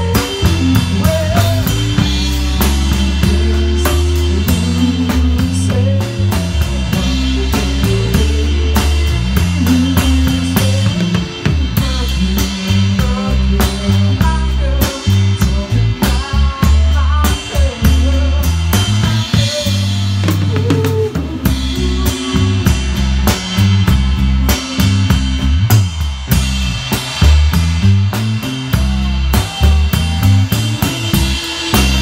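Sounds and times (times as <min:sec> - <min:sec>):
drum kit playing: 0:00.0 - 0:32.0
electric bass long low notes: 0:00.0 - 0:32.0
electric guitar bending notes: 0:00.0 - 0:32.0.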